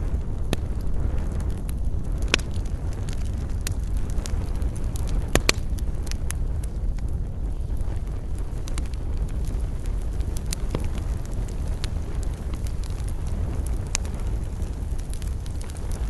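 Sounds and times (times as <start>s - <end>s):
campfire crackling and popping: 0.0s - 16.0s
steady low rumble: 0.0s - 16.0s.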